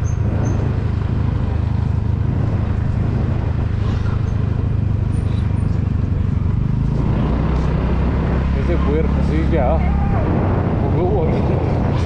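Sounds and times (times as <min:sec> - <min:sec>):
motorcycle engine drone: 0:00.0 - 0:12.0
wind rushing over microphone: 0:00.0 - 0:12.0.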